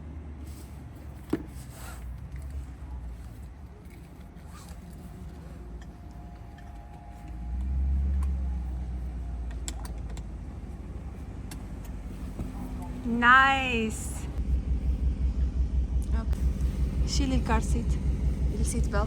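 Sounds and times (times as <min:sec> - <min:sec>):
low car cabin rumble: 0:00.7 - 0:19.0.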